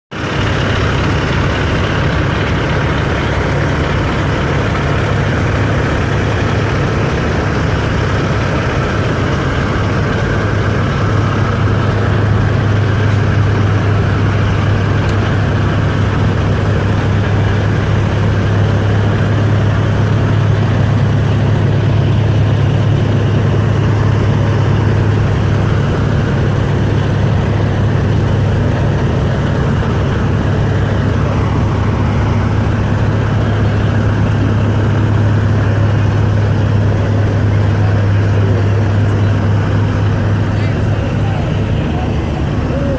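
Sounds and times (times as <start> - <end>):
diesel truck engine idling: 0.1 - 42.9.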